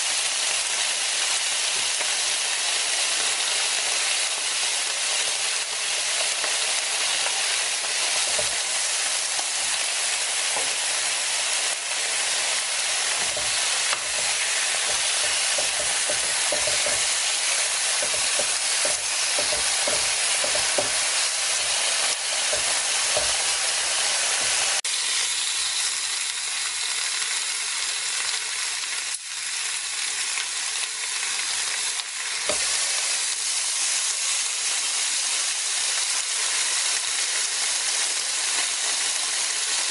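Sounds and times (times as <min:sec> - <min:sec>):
meat sizzling on a grill plate: 0:00.0 - 0:39.9.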